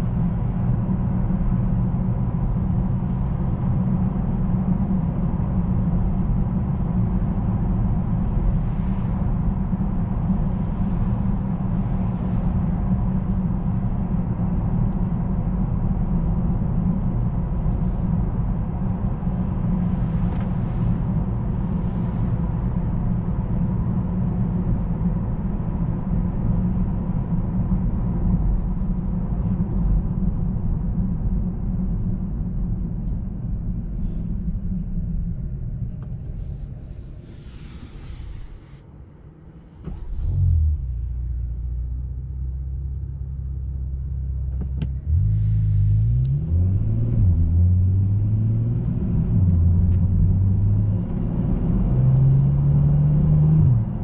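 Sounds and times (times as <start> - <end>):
car cabin engine and tyre drone: 0.0 - 54.0.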